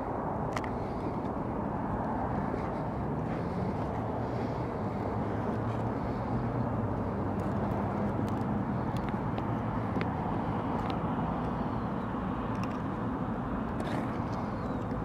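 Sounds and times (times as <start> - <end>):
faint engine hum: 0.0 - 15.0
traffic rumble: 0.0 - 15.0.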